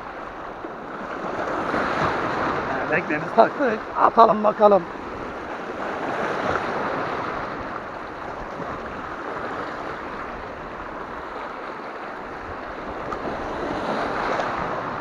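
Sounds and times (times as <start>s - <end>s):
sea waves breaking on rocks: 0.0s - 15.0s.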